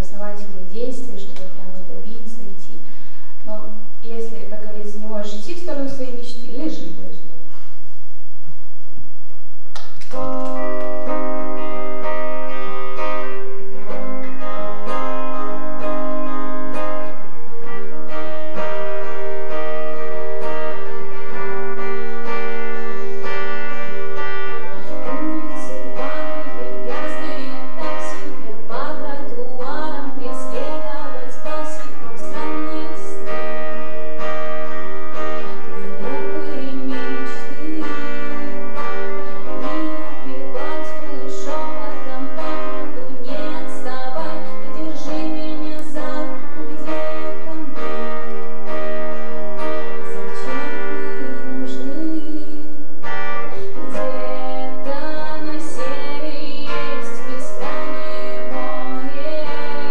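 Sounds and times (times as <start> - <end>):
song with guitar: 9.6 - 59.9.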